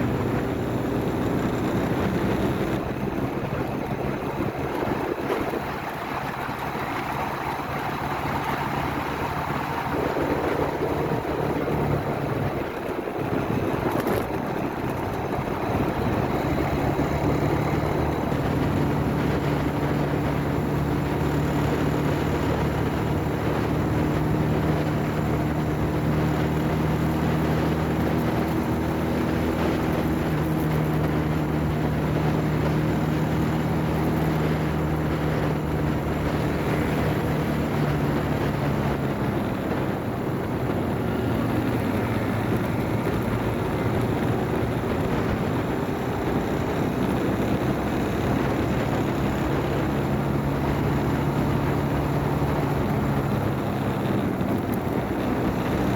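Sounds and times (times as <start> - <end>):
motorcycle engine running: 0.0 - 55.9
road and wind noise: 0.0 - 55.9.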